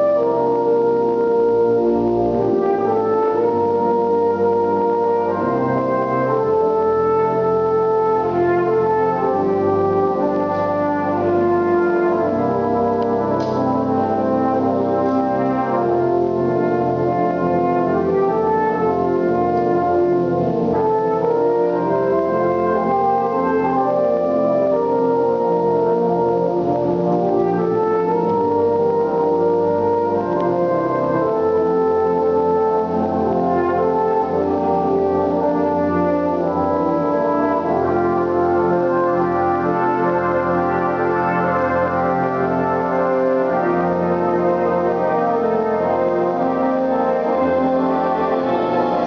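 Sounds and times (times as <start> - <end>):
brass band held chords: 0.0 - 49.0
brass horn solo melody: 0.0 - 49.0.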